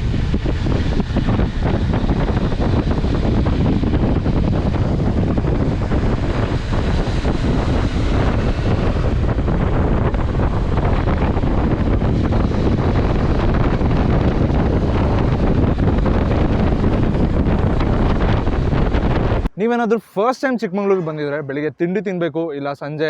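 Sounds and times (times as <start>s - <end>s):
low rumble: 0.0s - 19.6s
strong wind on microphone: 0.0s - 19.6s.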